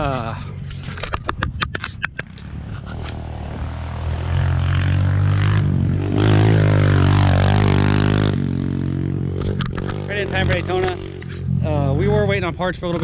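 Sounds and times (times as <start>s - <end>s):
vehicle engine revving: 2.3s - 13.0s.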